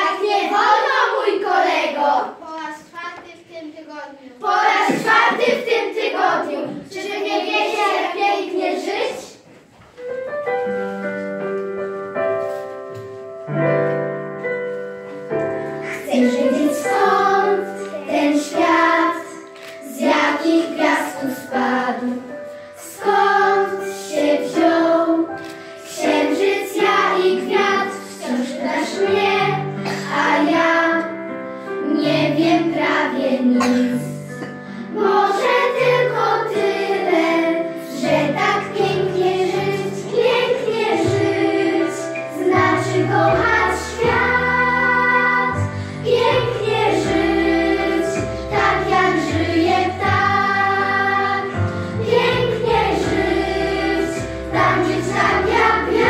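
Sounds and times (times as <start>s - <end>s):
children singing in unison: 0.0s - 2.4s, 4.4s - 9.4s, 15.8s - 56.0s
instrumental accompaniment: 9.4s - 56.0s.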